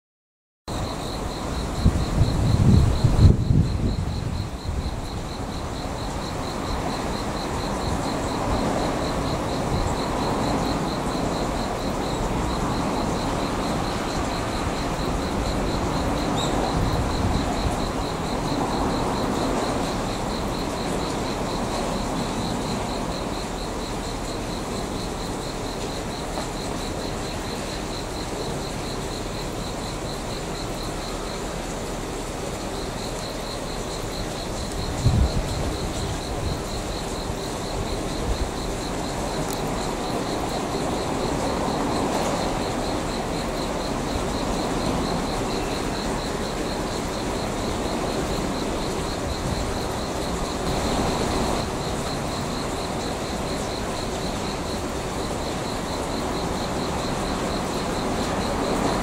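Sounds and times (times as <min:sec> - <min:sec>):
insects trilling: 0:00.7 - 0:59.0.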